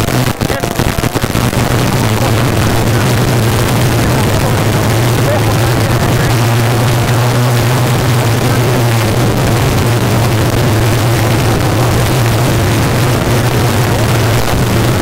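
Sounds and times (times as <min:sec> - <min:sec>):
car engine running hard: 0:00.0 - 0:15.0
gravel and road noise: 0:00.0 - 0:15.0.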